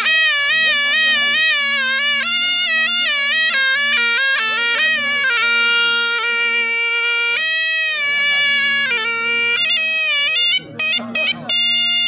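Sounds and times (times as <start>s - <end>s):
double-reed pipe melody: 0.0s - 12.0s.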